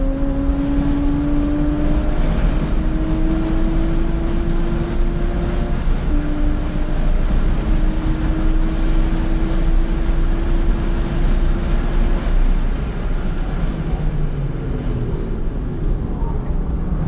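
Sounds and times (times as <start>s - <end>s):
car engine at full throttle: 0.0s - 17.0s
wind and road noise: 0.0s - 17.0s.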